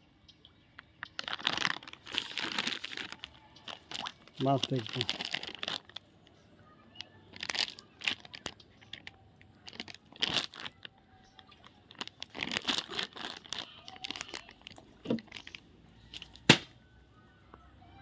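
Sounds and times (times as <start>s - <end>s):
hands crinkling and rustling: 0.7s - 16.6s.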